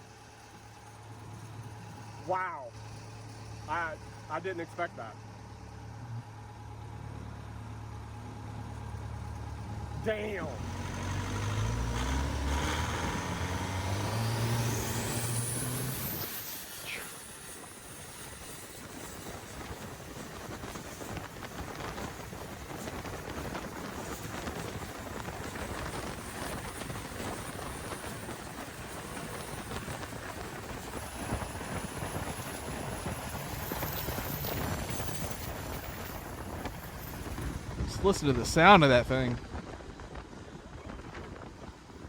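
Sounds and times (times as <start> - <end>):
turbo whine: 0.0 - 39.7
rushing noise of boat at speed: 5.7 - 42.0
boat engine running hard: 7.9 - 42.0.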